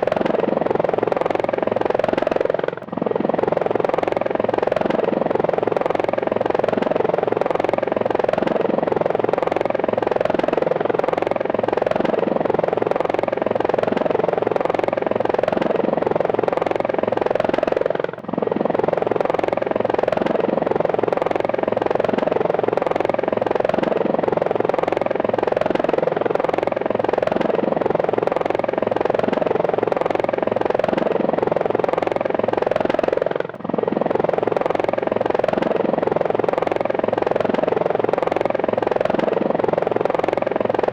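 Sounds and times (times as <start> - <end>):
helicopter engine running: 0.0 - 40.9
helicopter rotor blades beating: 0.0 - 40.9.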